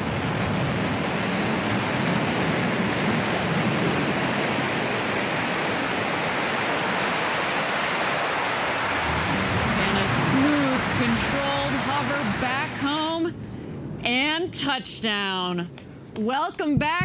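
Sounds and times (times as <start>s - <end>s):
rocket engine rushing: 0.0s - 15.0s.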